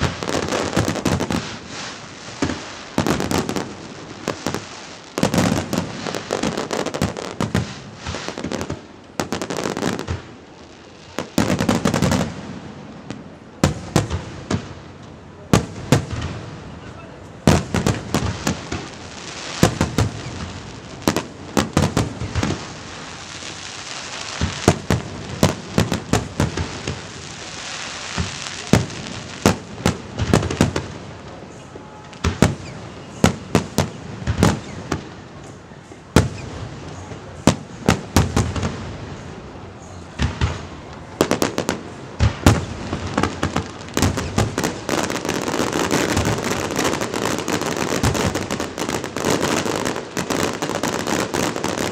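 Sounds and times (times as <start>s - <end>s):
fireworks crackling: 0.0s - 51.9s.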